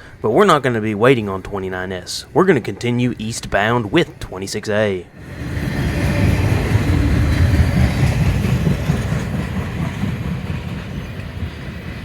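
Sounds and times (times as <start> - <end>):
freight train wheels clattering: 0.0 - 12.0.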